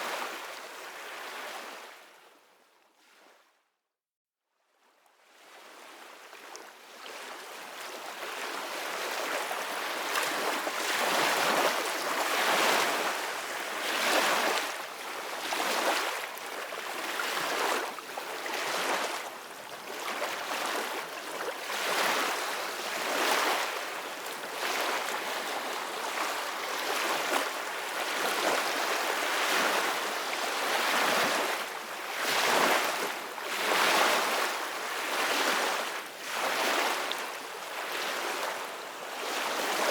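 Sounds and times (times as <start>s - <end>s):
ocean waves breaking on beach: 7.2s - 39.9s.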